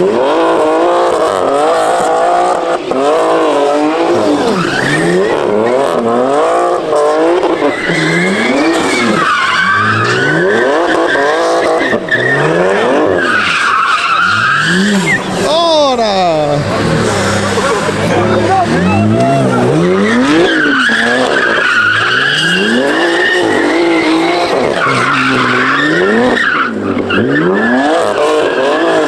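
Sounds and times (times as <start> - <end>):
car engine revving: 0.0 - 29.0
tires squealing: 0.0 - 29.0.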